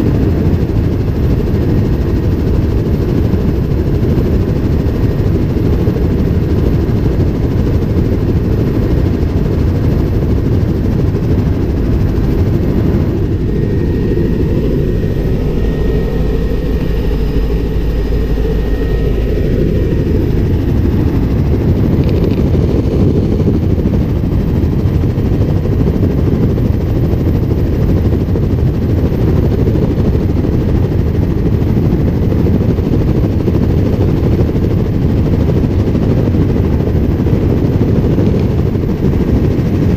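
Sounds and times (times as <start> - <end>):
helicopter rotor and engine: 0.0 - 39.9
wind rush: 0.0 - 39.9.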